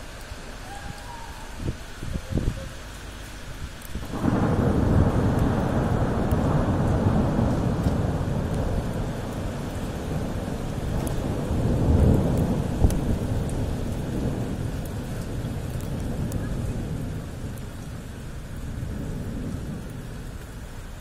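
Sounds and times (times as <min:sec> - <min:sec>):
heavy rain: 0:00.0 - 0:21.0
thunder rumbling: 0:04.0 - 0:21.0.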